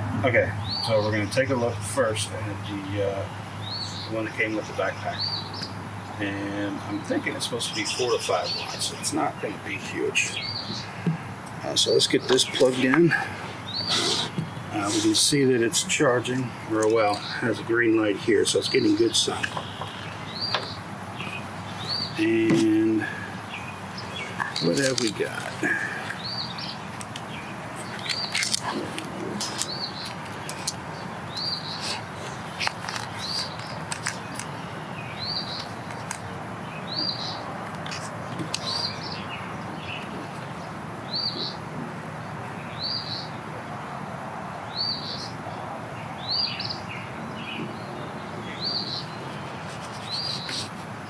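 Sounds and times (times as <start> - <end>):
bird chirping: 0.3 - 41.6, 42.3 - 43.4, 44.7 - 50.8.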